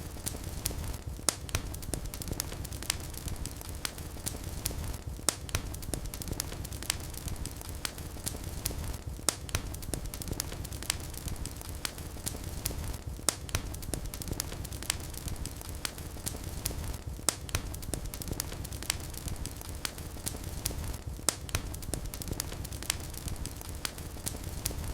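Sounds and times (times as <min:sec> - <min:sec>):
wood fire crackling and popping: 0:00.0 - 0:24.9.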